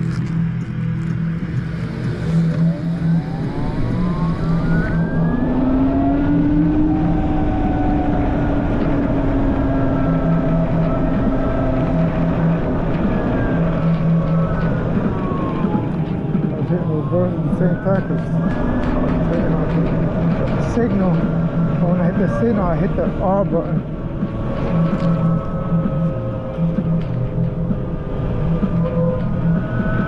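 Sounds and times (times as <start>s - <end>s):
electric motorcycle motor whine: 0.0s - 30.0s
wind noise on microphone: 0.0s - 30.0s.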